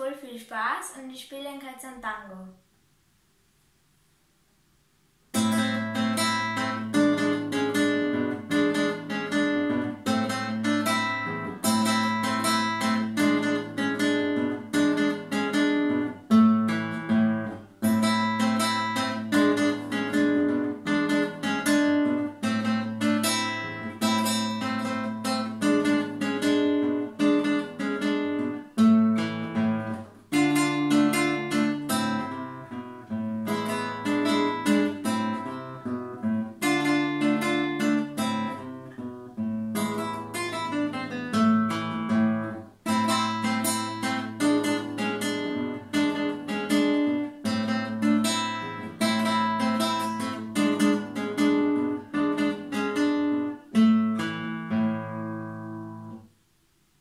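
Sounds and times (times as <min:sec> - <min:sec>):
acoustic guitar playing: 0:05.2 - 0:57.0.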